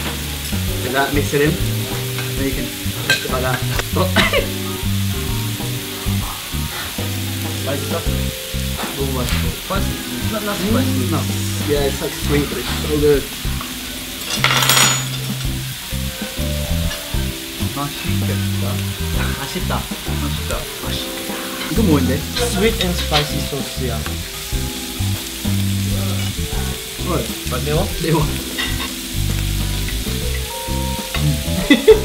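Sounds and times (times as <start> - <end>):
meat sizzling in a pan: 0.0 - 32.0
music with bass line: 0.0 - 32.0.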